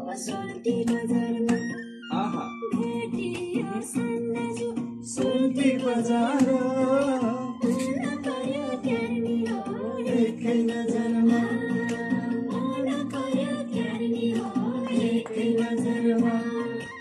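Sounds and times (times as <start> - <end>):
person singing: 0.0 - 17.0
plucked guitar: 0.0 - 17.0.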